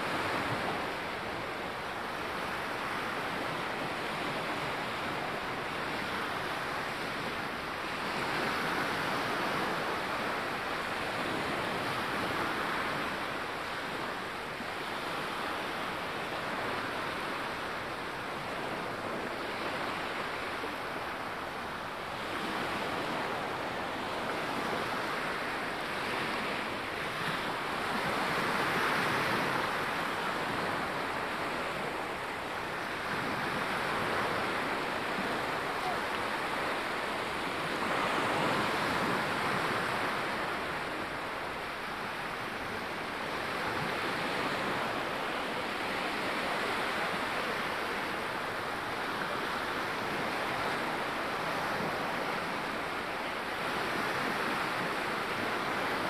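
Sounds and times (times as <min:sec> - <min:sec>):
small waves washing on sandy shore: 0:00.0 - 0:56.0.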